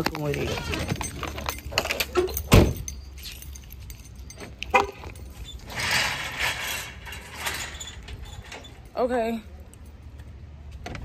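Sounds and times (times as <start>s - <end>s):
handling noise: 0.0s - 8.9s.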